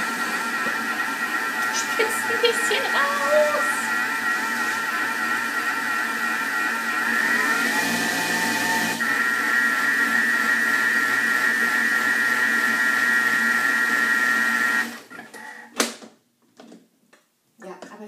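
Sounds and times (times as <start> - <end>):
food processor motor whine: 0.0 - 15.7.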